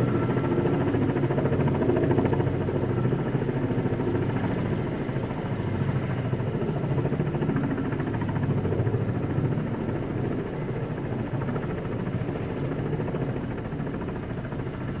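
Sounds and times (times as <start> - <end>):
helicopter rotor beat: 0.0 - 15.0
turbine engine whine: 0.0 - 15.0.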